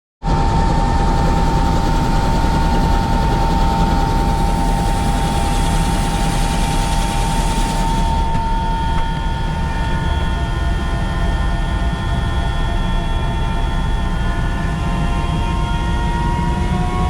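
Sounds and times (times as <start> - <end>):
helicopter rotor and engine: 0.2 - 17.0.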